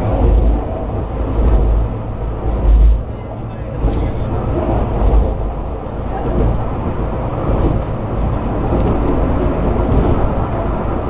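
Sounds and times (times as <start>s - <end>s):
funicular car rumbling: 0.0s - 11.0s.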